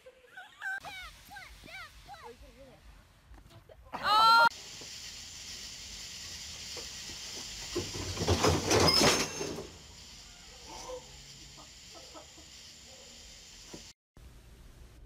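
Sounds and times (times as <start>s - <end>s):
steady high hiss: 0.2s - 15.0s.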